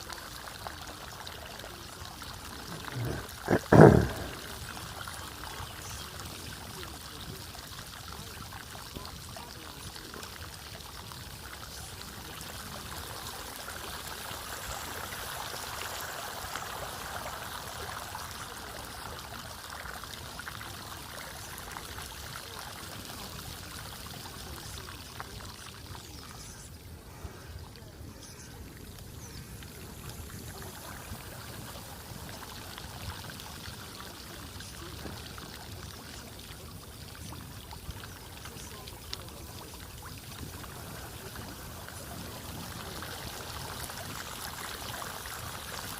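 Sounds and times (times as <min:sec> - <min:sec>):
floodwater running: 0:00.0 - 0:45.9.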